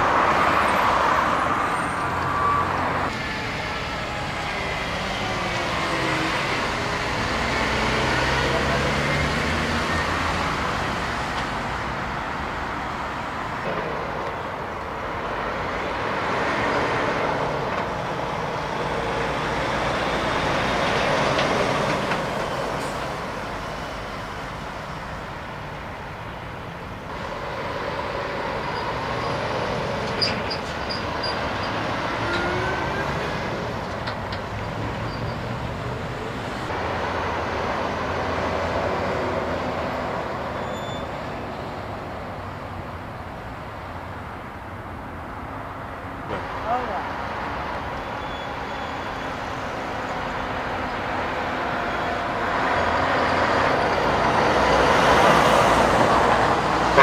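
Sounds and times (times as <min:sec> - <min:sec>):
heavy trucks driving past: 0:00.0 - 0:57.0.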